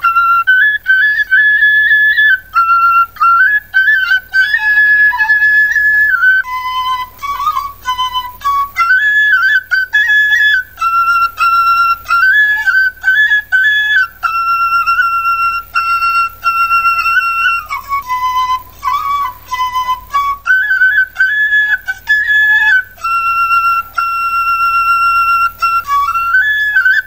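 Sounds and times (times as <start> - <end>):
solo flute melody: 0.0 - 27.0.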